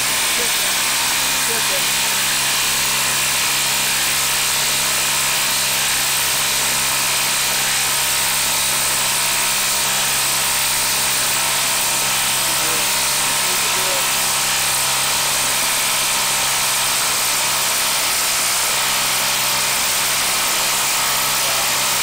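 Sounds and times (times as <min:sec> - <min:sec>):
impact driver boring into log: 0:00.0 - 0:22.0.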